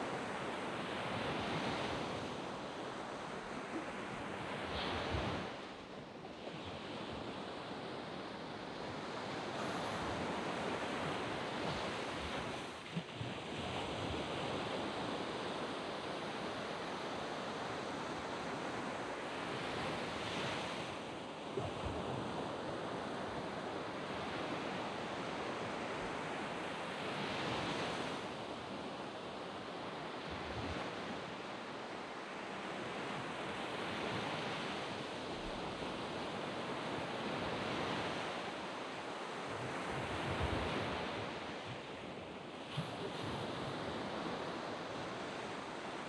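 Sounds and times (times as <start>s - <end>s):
surf on sand beach: 0.0s - 46.0s.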